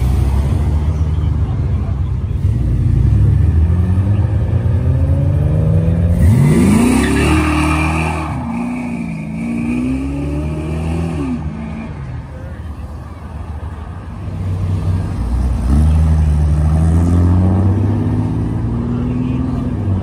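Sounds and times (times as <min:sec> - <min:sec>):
car engines accelerating: 0:00.0 - 0:20.0.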